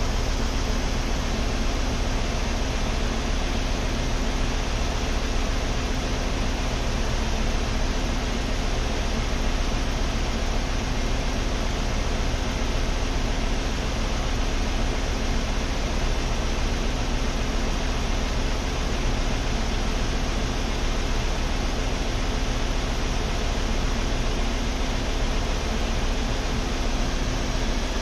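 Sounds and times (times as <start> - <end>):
engine and cooling fan rushing: 0.0 - 28.0.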